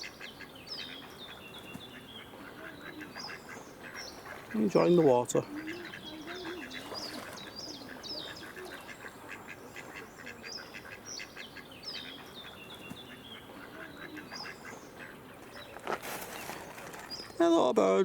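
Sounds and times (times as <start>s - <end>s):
ducks quacking: 0.0s - 17.0s
high downward-sliding peeping calls: 0.2s - 17.6s.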